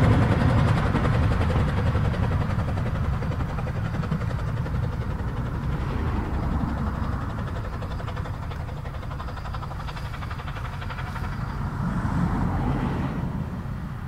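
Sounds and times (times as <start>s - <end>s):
train wheels clattering: 0.0s - 11.9s
steam train running: 0.0s - 14.0s.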